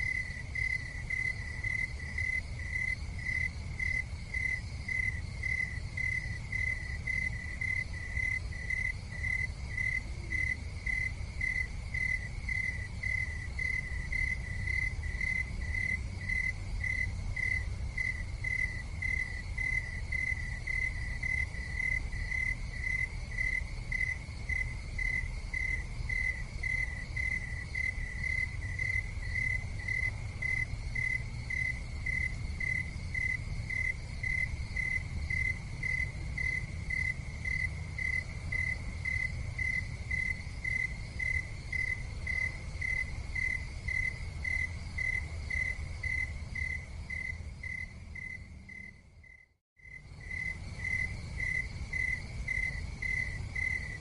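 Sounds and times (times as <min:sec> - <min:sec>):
cricket chirping: 0:00.0 - 0:54.0
low continuous rumble: 0:00.0 - 0:54.0.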